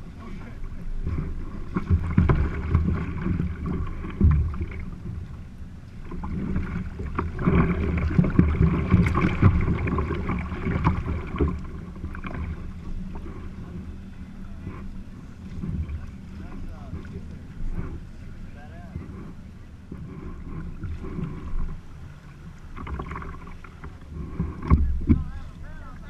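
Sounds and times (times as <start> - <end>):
water splashing around a kayak: 0.0 - 26.0
wind buffeting microphone: 0.0 - 26.0.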